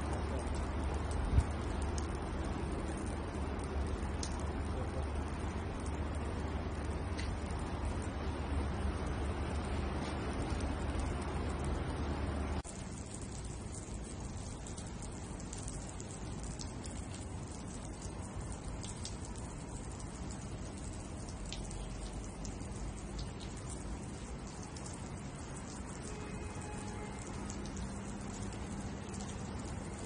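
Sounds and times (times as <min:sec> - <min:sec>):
sprinkler water spraying: 0:00.0 - 0:30.0.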